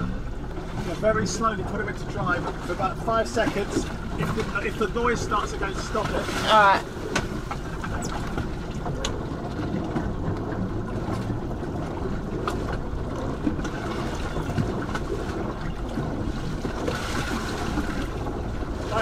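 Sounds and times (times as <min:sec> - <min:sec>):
boat engine running: 0:00.0 - 0:19.0
water washing along hull: 0:00.0 - 0:19.0.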